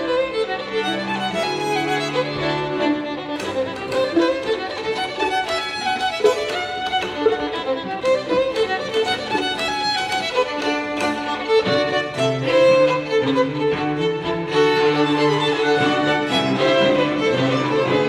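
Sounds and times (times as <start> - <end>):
low cello notes: 0.0 - 18.0
string quartet: 0.0 - 18.0
violin melody: 0.0 - 18.0.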